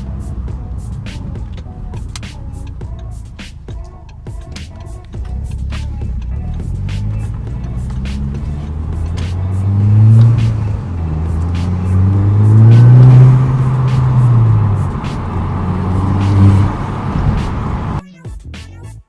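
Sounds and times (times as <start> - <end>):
car engine revving: 0.0 - 18.0
background music: 0.0 - 19.0.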